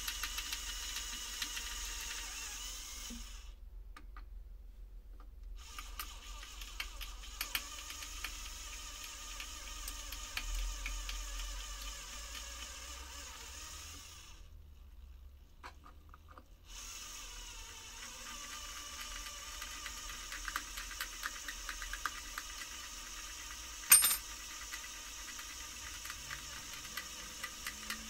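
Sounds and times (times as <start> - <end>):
small electric drill running: 0.0 - 3.6, 5.6 - 14.5, 16.7 - 28.0.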